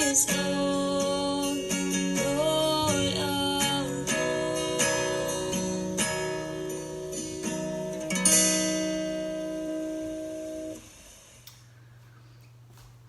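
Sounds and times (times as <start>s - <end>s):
acoustic guitar strumming chords: 0.0s - 11.4s.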